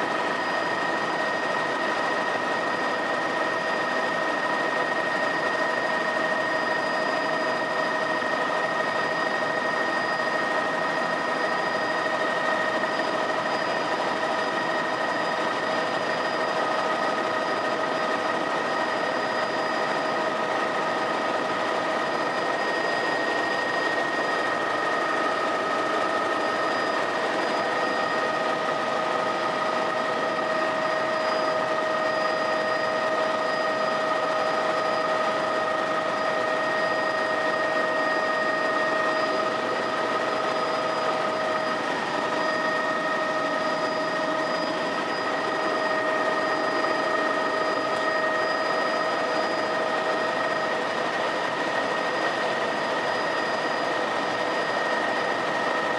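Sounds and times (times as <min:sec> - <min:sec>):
helicopter engine and rotor noise: 0:00.0 - 0:55.9
high-pitched turbine whine: 0:00.0 - 0:55.9.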